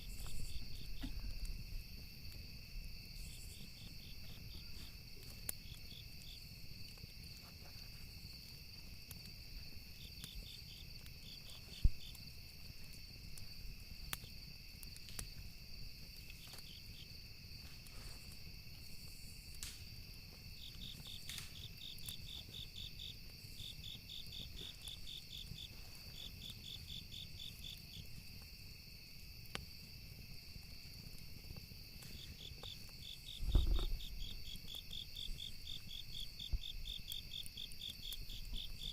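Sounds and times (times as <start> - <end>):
high insect drone: 0.0 - 19.5, 20.1 - 38.9
crickets chirping: 0.0 - 38.9
wood crackling and popping: 0.0 - 38.9.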